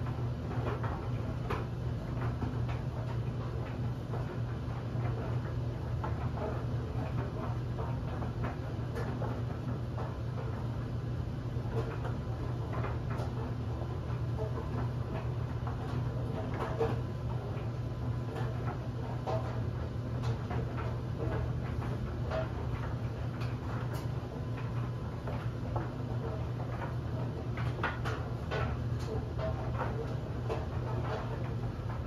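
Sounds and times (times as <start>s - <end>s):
clothes dryer humming: 0.0s - 32.0s.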